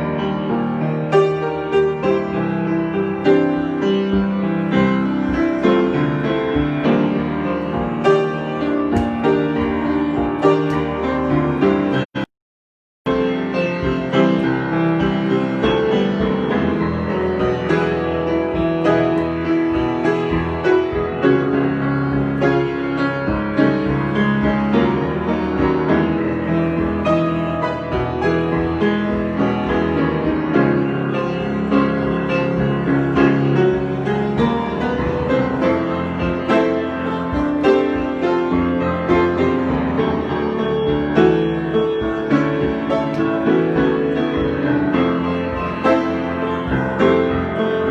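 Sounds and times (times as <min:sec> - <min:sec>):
solo piano improvisation: 0:00.0 - 0:12.3, 0:13.1 - 0:47.9.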